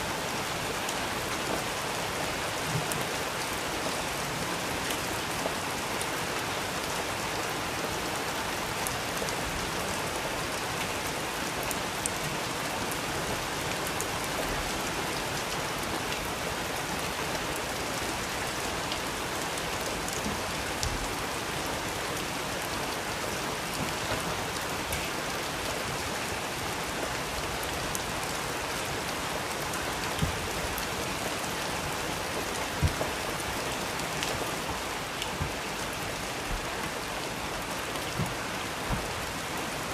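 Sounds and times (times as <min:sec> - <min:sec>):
steady rain falling: 0:00.0 - 0:39.9
sharp rain taps: 0:07.9 - 0:39.9.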